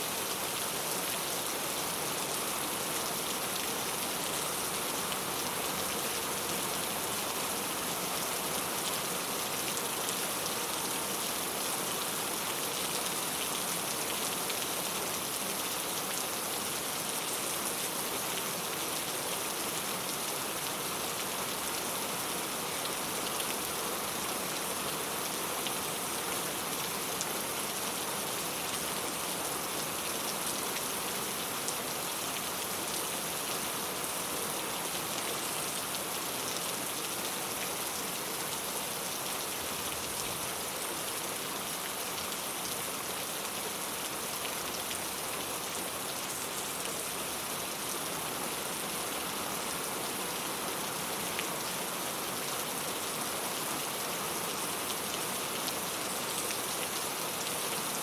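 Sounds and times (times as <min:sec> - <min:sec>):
rain on a tile roof: 0:00.0 - 0:58.0.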